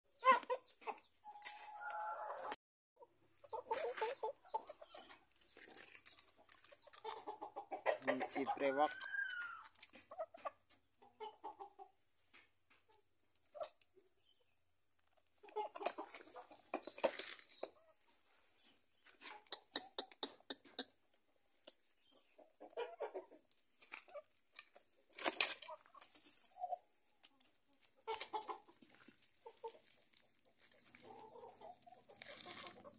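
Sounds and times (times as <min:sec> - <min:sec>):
chickens clucking and calling: 0:00.1 - 0:32.9.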